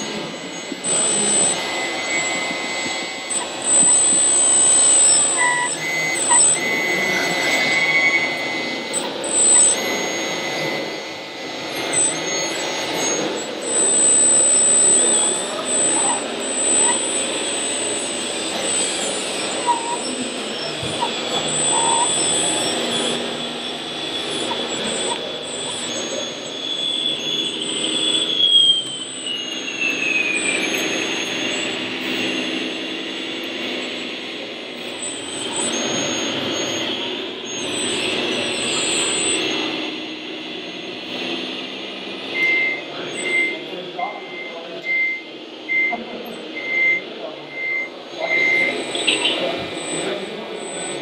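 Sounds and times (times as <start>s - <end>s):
high whine sliding down: 0.0s - 51.0s
model motor whine: 0.0s - 51.0s.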